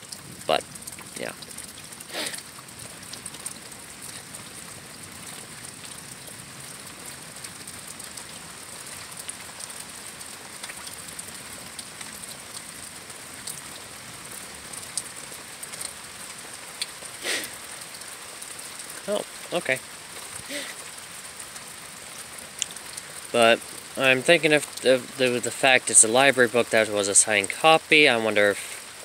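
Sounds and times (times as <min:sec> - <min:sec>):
light rain pattering: 0:00.0 - 0:29.0.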